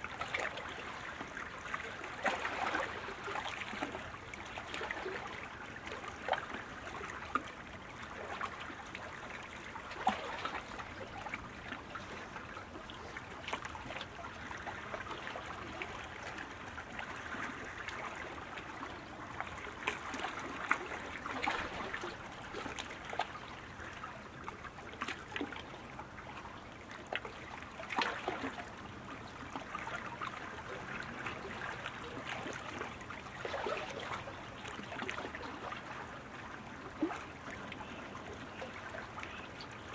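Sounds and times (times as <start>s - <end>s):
small waves lapping against hulls: 0.0s - 39.9s.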